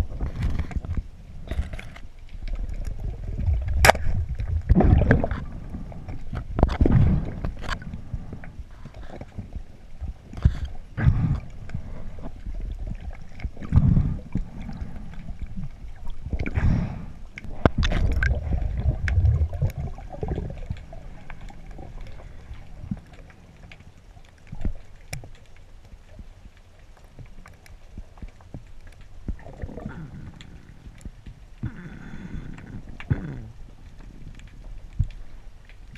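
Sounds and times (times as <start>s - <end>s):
underwater gurgling and rushing: 0.0s - 35.9s.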